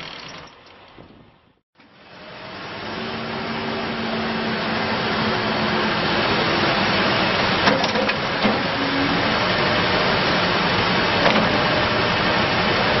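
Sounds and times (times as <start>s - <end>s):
diesel engine running: 1.8s - 13.0s.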